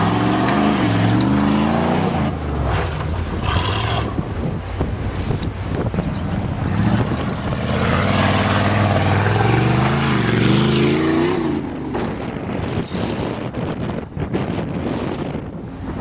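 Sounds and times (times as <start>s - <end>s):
truck engine revving under load: 0.0s - 16.0s.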